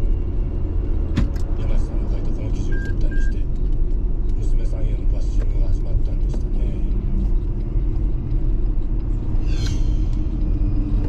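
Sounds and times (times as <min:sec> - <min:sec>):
car road rumble from inside: 0:00.0 - 0:11.0.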